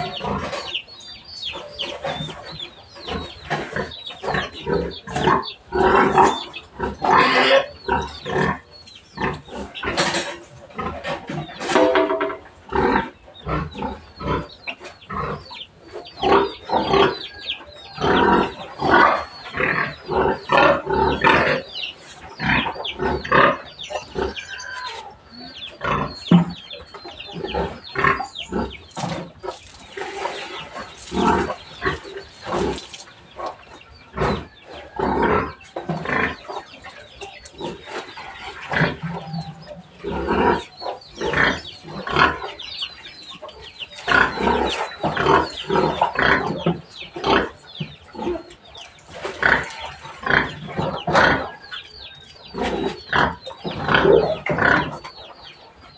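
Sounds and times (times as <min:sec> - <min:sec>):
pigs squealing and grunting: 0:00.0 - 0:55.9.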